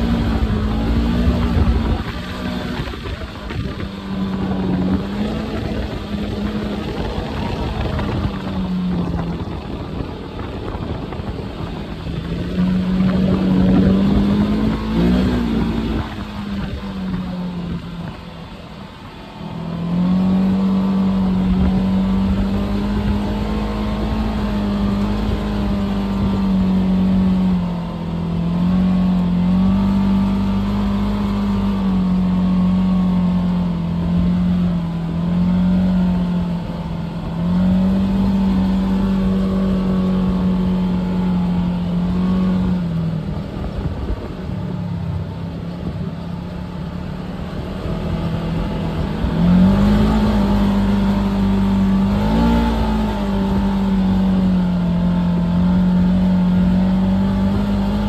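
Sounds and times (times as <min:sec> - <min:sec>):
tyre and road noise: 0:00.0 - 0:58.0
vehicle engine droning: 0:00.0 - 0:58.0.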